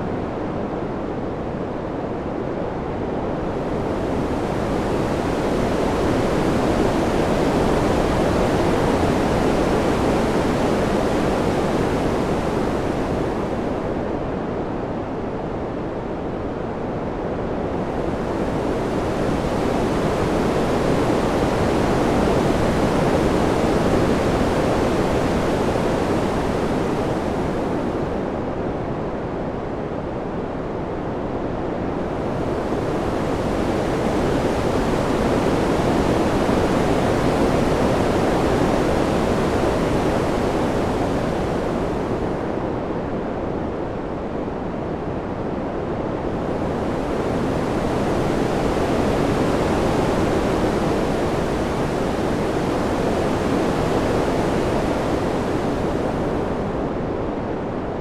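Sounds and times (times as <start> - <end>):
rushing wind: 0.0 - 58.0.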